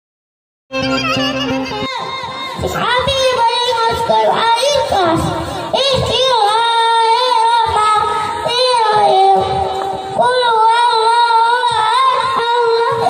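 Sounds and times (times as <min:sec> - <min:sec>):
young boy singing: 0:00.8 - 0:13.0.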